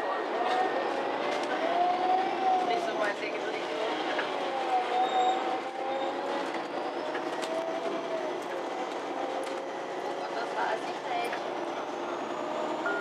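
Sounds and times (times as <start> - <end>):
bus engine whine: 0.0 - 13.0.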